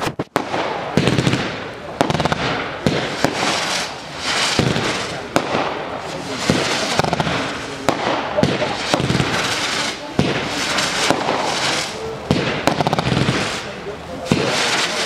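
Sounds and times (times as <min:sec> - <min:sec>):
dense firework crackling: 0:00.0 - 0:15.0
firework shells bursting: 0:00.0 - 0:15.0.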